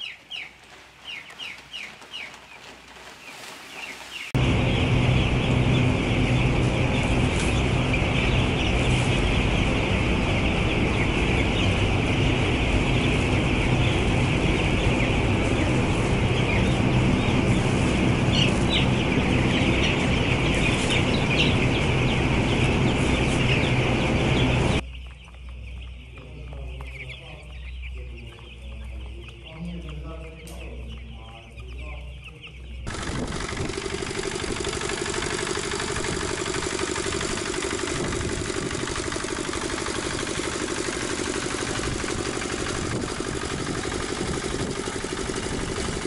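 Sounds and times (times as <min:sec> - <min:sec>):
chicks peeping: 0:00.0 - 0:46.0
steady low hum: 0:04.3 - 0:46.0.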